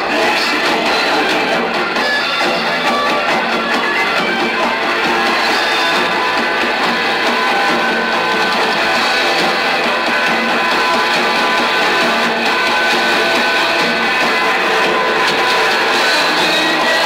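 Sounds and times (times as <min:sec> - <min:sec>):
punk rock band playing live: 0:00.0 - 0:17.0.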